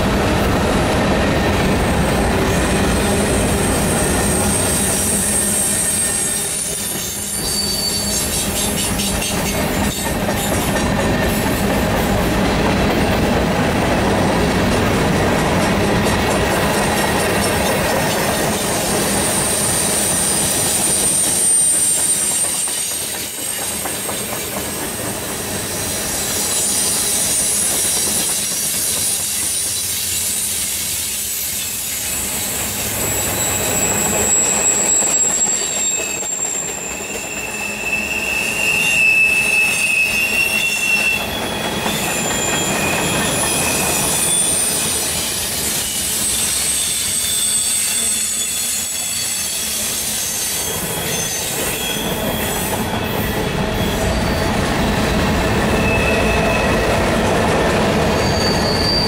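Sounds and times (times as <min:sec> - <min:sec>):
rumble of rolling train cars: 0:00.0 - 0:59.0
train wheels squealing on rails: 0:00.0 - 0:59.0.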